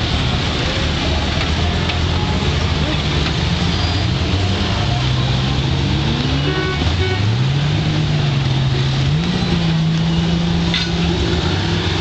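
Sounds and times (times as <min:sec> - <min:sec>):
motorcycle engines humming: 0:00.0 - 0:12.0.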